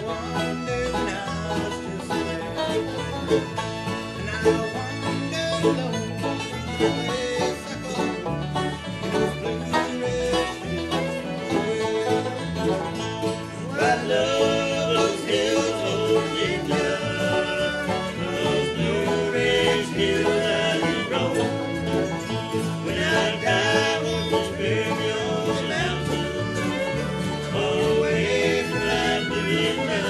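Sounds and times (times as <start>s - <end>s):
banjo: 0.0s - 30.0s
fiddle: 0.0s - 30.0s
guitar: 0.0s - 30.0s.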